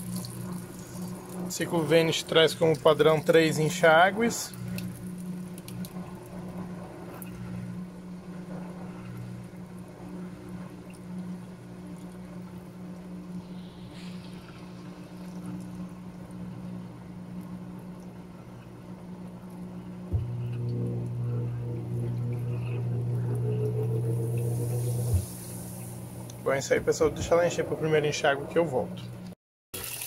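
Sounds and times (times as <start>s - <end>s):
water running into washing machine: 0.0s - 18.3s, 18.9s - 30.0s
low machine hum: 0.0s - 29.4s.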